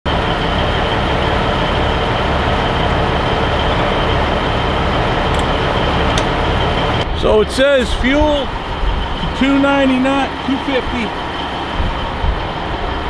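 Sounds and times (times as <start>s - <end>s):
diesel truck engine idling: 0.1s - 13.0s.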